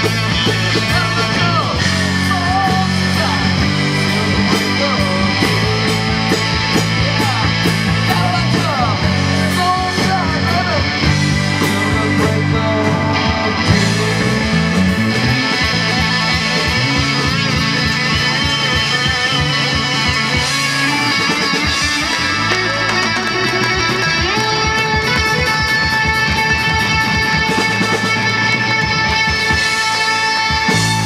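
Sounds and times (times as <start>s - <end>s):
electric guitar lead line bending: 0.0s - 31.0s
live rock band playing: 0.0s - 31.0s.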